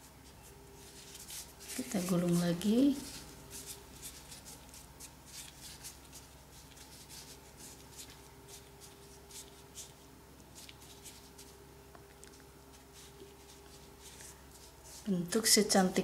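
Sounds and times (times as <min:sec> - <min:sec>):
plastic gloves crinkling: 0:00.0 - 0:16.0.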